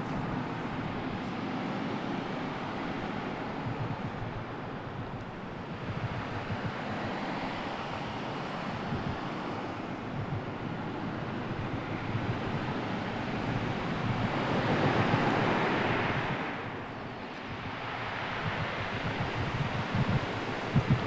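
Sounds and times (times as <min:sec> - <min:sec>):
sea waves washing on shore: 0:00.0 - 0:21.0.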